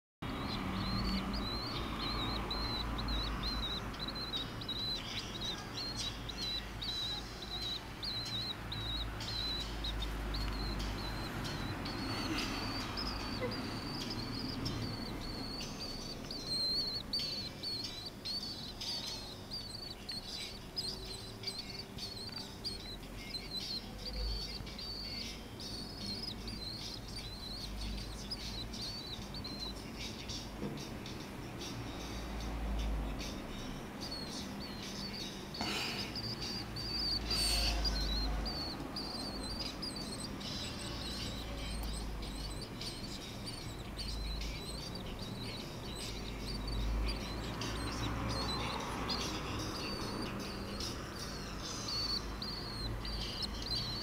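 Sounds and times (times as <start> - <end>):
nestling bird cheeping: 0.2 - 29.9, 33.2 - 54.0.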